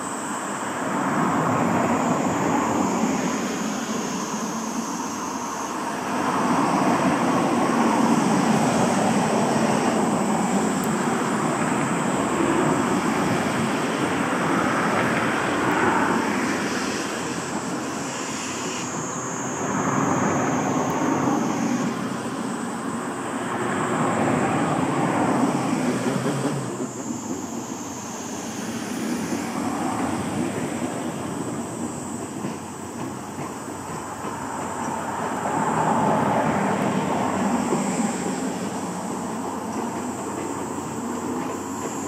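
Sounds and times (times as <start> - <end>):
steam locomotive exhaust hiss: 0.0 - 42.0.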